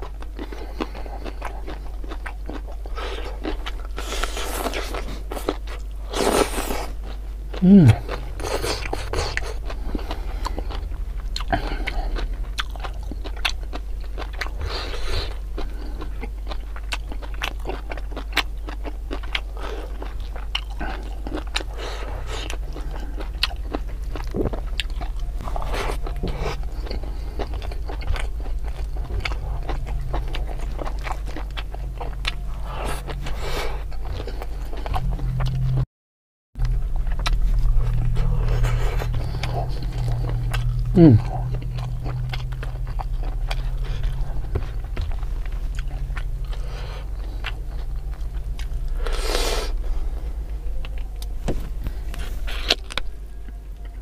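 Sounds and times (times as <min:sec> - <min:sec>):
chewing and lip-smacking: 0:00.0 - 0:35.8, 0:36.6 - 0:54.0
steady low hum: 0:00.0 - 0:35.8, 0:36.6 - 0:54.0.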